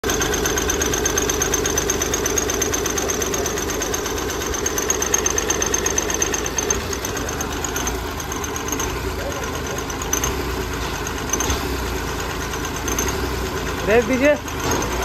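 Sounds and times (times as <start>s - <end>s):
diesel engine idling with knocking: 0.0s - 15.0s.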